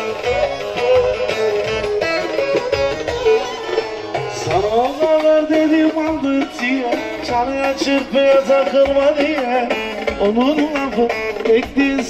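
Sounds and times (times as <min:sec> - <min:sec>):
fast plucked-string melody: 0:00.0 - 0:12.0
steady drum beat: 0:00.0 - 0:12.0.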